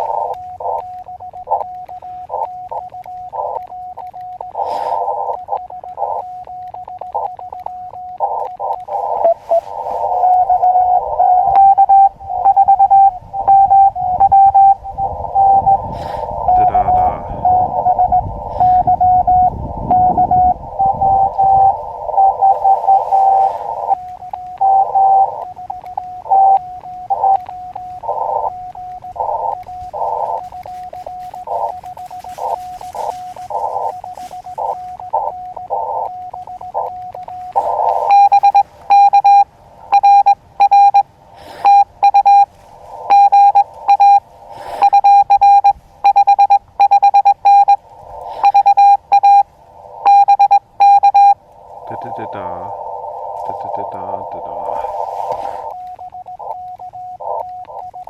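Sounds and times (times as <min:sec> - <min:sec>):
morse code sidetone: 0:00.0 - 0:58.0
morse code tone: 0:00.0 - 0:58.0
radio band hiss: 0:00.0 - 0:58.0.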